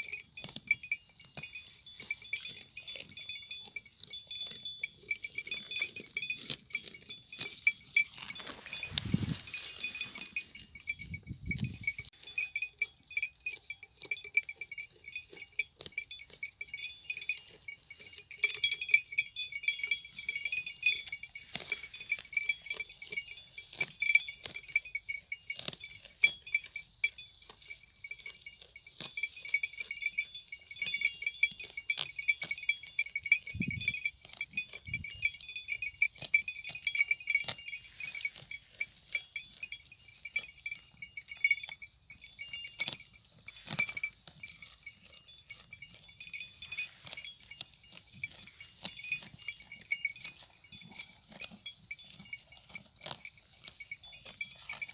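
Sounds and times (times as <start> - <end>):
goat bell jingling: 0.0 - 54.9
goat chewing dry grass: 0.0 - 54.9.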